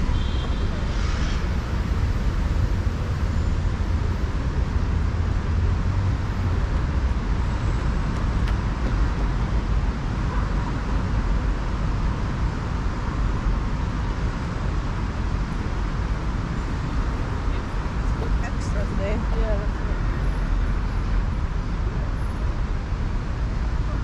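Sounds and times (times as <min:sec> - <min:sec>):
city road traffic: 0:00.0 - 0:24.0.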